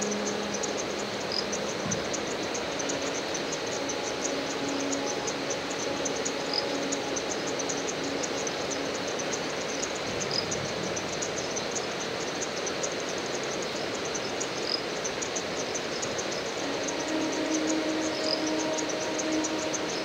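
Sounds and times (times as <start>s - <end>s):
ambient hiss: 0.0s - 20.0s
insects chirping: 0.0s - 20.0s.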